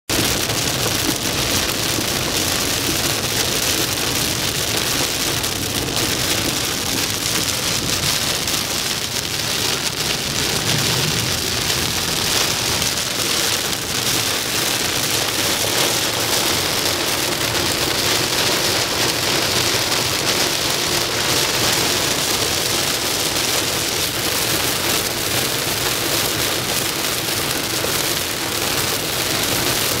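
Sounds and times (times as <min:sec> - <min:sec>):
heavy rain on car windshield: 0:00.1 - 0:30.0
tyre hiss on wet road: 0:00.2 - 0:30.0.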